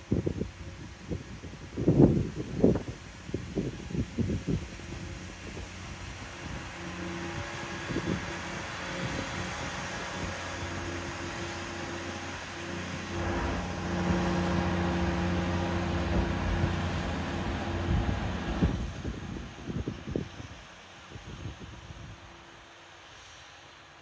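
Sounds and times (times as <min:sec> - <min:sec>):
train diesel engine droning: 0:00.1 - 0:23.8.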